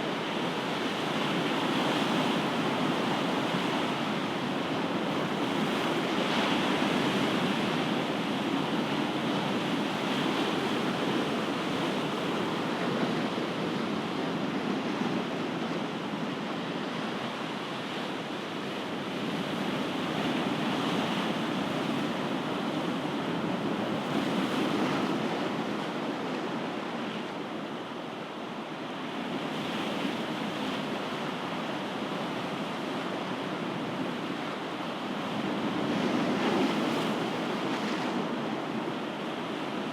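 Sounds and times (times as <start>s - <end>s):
ocean waves surf: 0.1s - 39.9s.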